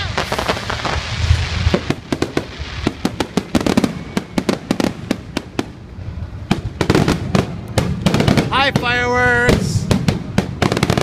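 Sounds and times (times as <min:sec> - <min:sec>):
deep firework boom: 0:00.0 - 0:11.0
firework bangs and crackles: 0:00.0 - 0:11.0.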